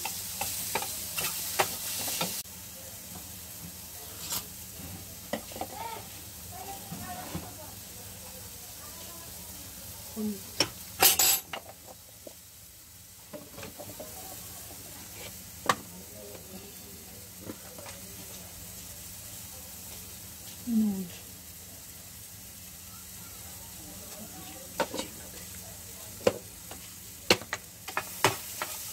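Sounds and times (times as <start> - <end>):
faint sizzle in a pan: 0.0 - 28.9.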